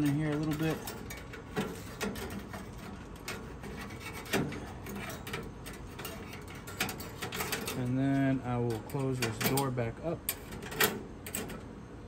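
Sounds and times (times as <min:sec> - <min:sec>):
metal poker scraping ashes: 0:00.0 - 0:11.7.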